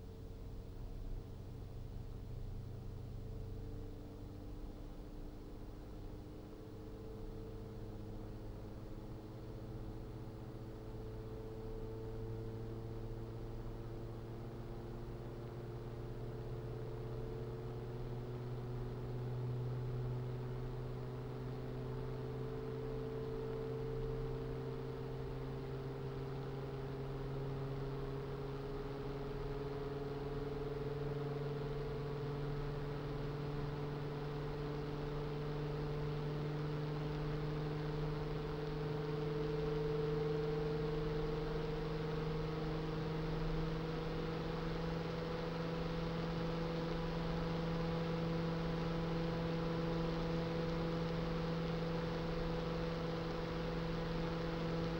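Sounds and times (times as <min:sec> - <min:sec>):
computer fan whooshing and humming: 0:00.0 - 0:54.9.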